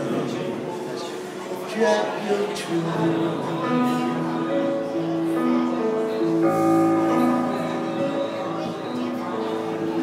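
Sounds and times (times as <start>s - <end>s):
electronic keyboard country ballad: 1.7s - 10.0s.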